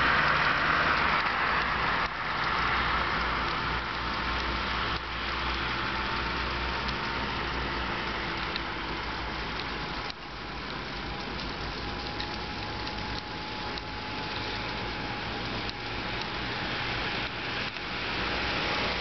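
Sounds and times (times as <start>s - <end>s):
car driving on snow: 0.0s - 19.0s
faint steady whine: 0.0s - 19.0s.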